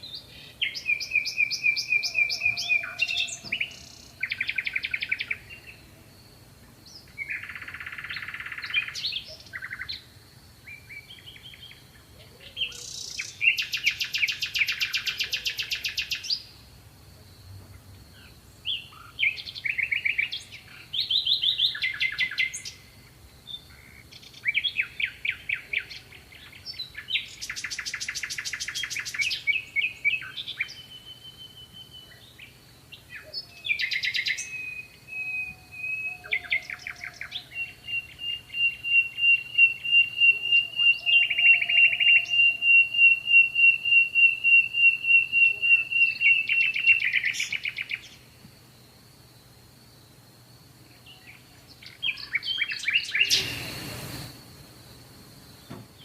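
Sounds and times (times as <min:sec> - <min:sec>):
songbirds trilling and chirping: 0:00.0 - 0:56.0.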